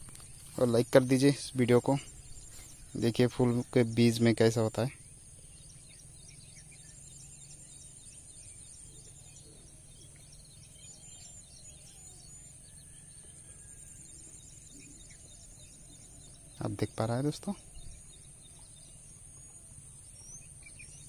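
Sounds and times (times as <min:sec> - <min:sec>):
faint bird chirps: 0:00.0 - 0:21.0
high-pitched insect whine: 0:00.0 - 0:21.0.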